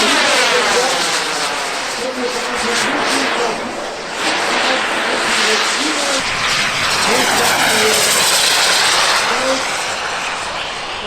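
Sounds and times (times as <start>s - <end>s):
model aircraft flying past: 0.0s - 11.0s.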